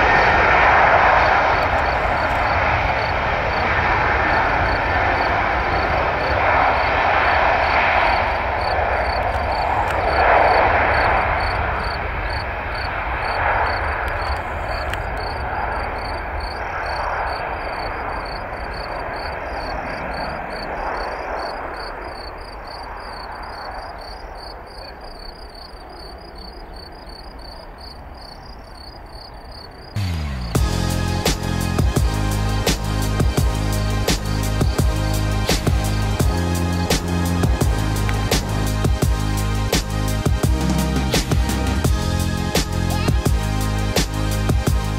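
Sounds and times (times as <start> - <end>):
insect chirping: 0.0 - 30.6, 32.8 - 41.0
jet engines at takeoff thrust: 0.0 - 44.9.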